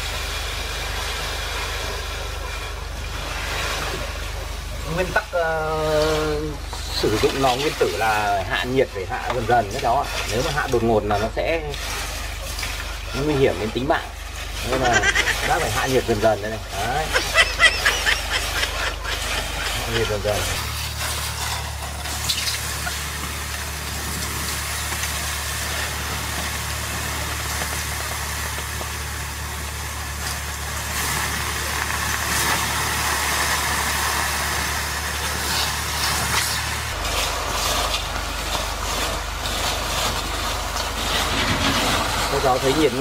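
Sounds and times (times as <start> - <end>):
steady low hum: 0.0 - 43.0
water splashing and hissing on hot metal: 0.0 - 43.0.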